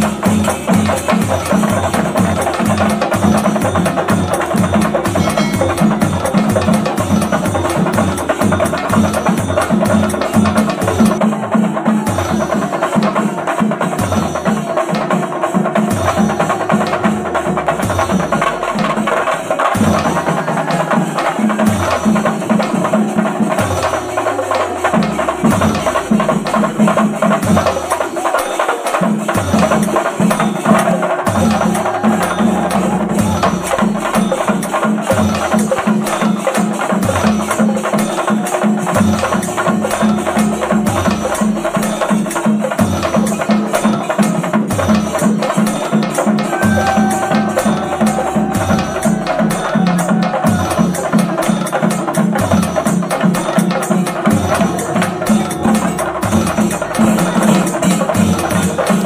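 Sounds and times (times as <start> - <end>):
fast busy percussion: 0.0 - 59.0.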